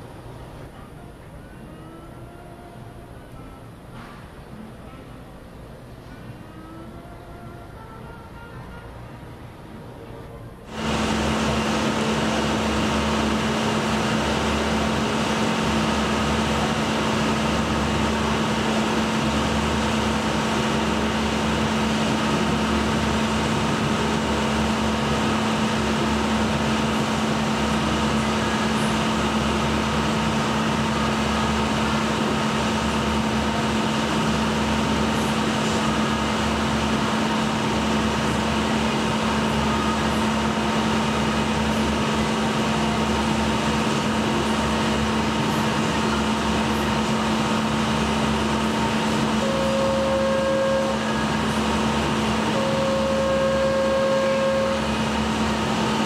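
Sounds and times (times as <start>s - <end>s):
mechanical hum with tones: 0.0s - 56.0s.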